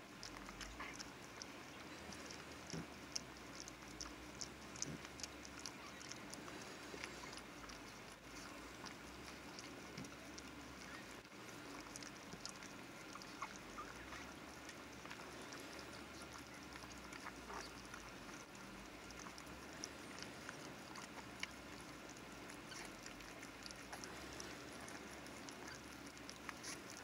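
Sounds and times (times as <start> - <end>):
dog licking puppy: 0.0 - 27.0.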